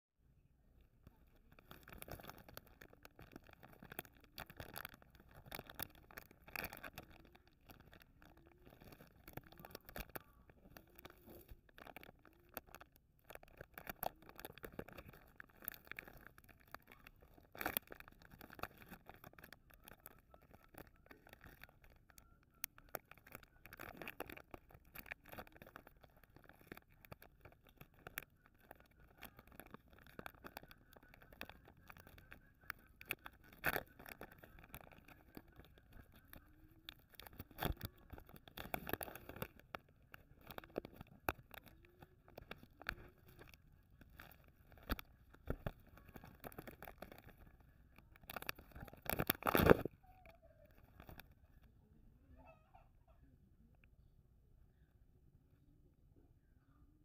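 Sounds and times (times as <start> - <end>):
plastic wrapper crinkling and tearing: 0.8 - 51.5.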